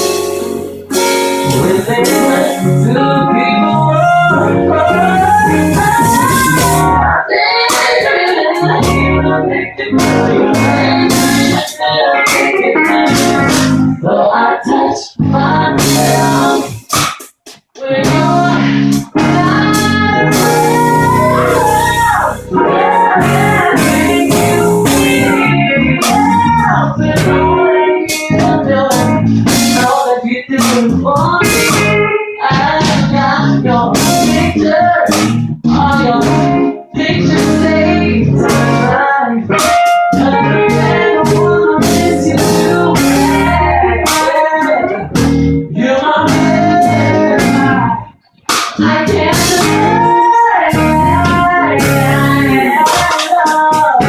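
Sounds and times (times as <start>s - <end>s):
lead guitar with pitch bends: 0.0s - 17.1s, 17.8s - 54.0s
live band playing soul music: 0.0s - 54.0s.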